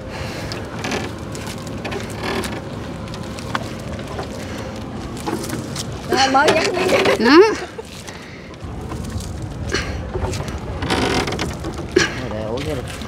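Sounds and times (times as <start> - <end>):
low rumble: 0.0 - 13.0
water splashing around boat: 0.0 - 13.0.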